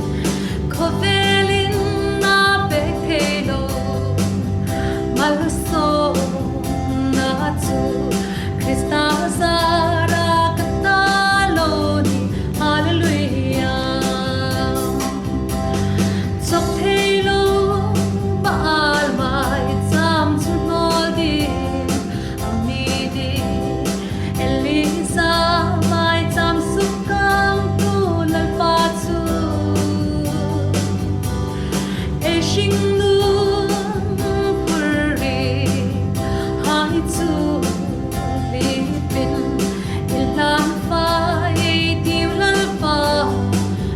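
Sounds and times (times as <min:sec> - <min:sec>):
bass: 0:00.0 - 0:43.9
guitar: 0:00.0 - 0:43.9
person singing: 0:00.0 - 0:43.9
steady beat: 0:00.0 - 0:43.9.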